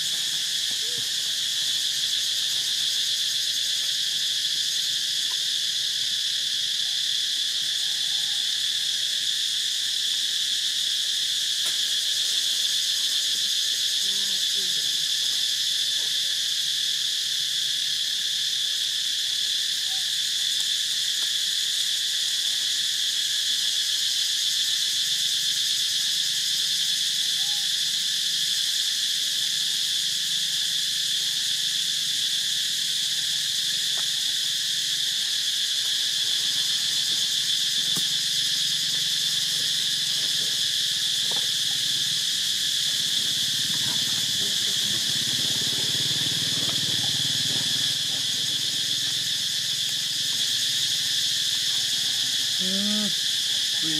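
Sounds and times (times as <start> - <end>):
shrill insect chorus: 0.0 - 53.9.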